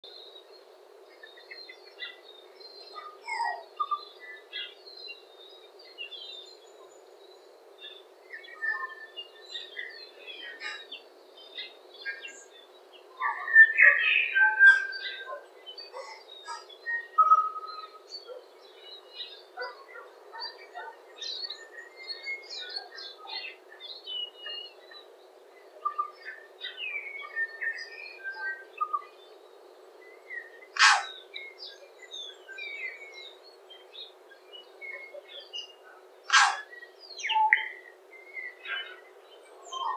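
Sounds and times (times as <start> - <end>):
steady low hiss: 0.0 - 39.9
birds chirping and calling: 0.1 - 39.9.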